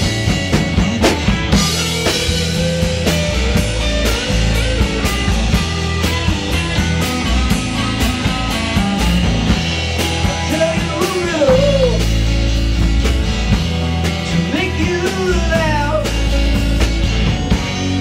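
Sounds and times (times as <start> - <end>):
drum beat: 0.0 - 18.0
live rock band playing: 0.0 - 18.0.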